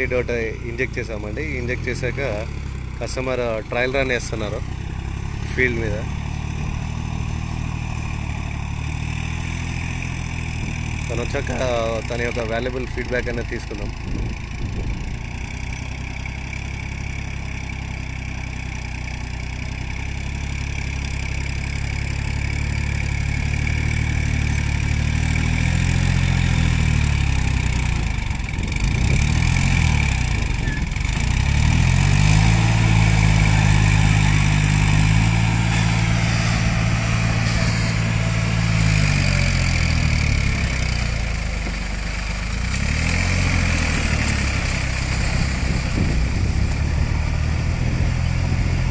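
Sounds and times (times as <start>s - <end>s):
tractor diesel engine revving: 0.0s - 48.9s.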